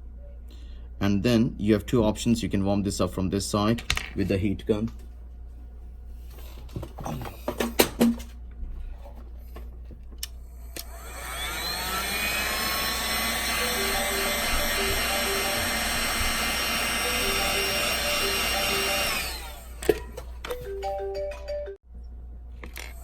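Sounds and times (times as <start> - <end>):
heat gun fan whine and hum: 2.1 - 20.6, 22.2 - 23.0.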